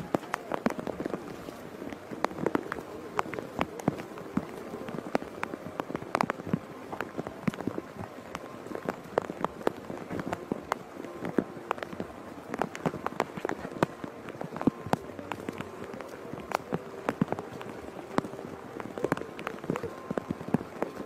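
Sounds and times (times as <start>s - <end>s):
rain falling: 0.0s - 21.0s
raindrops tapping on umbrellas: 0.0s - 21.0s.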